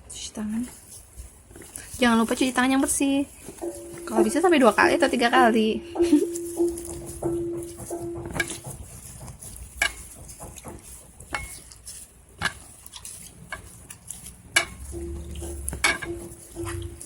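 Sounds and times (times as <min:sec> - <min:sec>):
soft stirring: 0:00.0 - 0:17.0
dishware and utensils clinking: 0:03.3 - 0:17.0.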